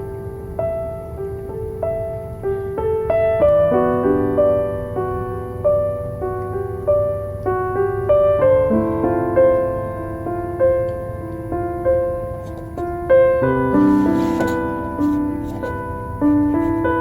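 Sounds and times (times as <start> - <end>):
faint low background noise: 0.0 - 17.0
slow solo piano: 0.0 - 17.0.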